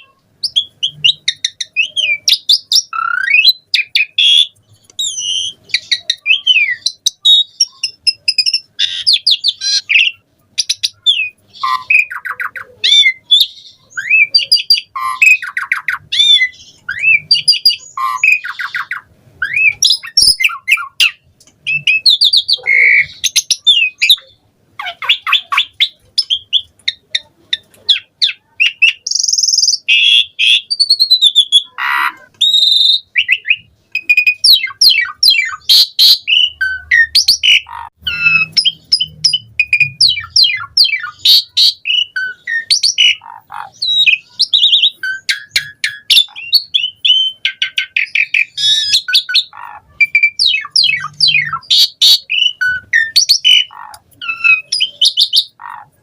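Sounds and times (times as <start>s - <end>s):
starling singing: 0.0s - 56.0s.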